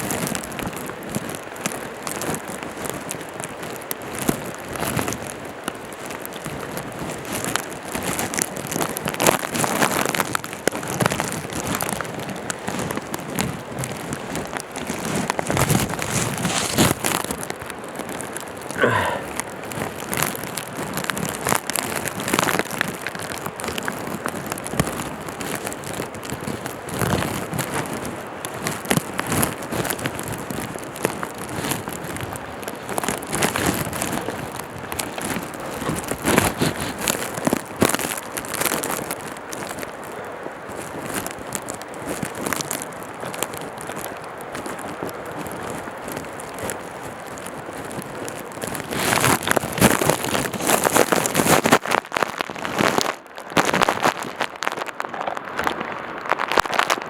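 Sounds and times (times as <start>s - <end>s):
footsteps crunching on rocky trail: 6.0s - 57.0s
rustling: 6.4s - 40.0s, 40.8s - 57.0s.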